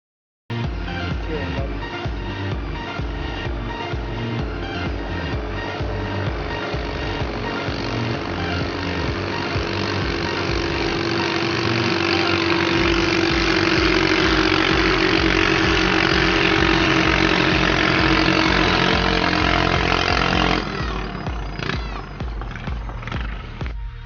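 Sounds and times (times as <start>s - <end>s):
boat engine running hard: 0.7s - 23.8s.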